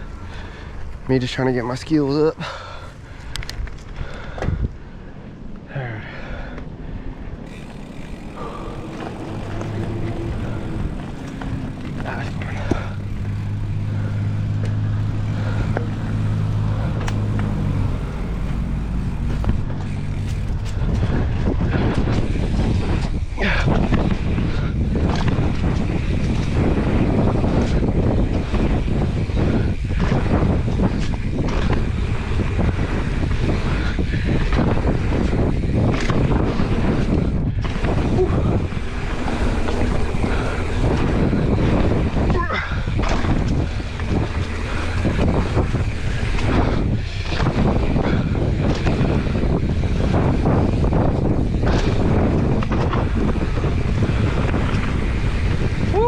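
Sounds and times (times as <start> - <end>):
wind noise on microphone: 0.0 - 56.0
low motor drone: 6.6 - 56.0.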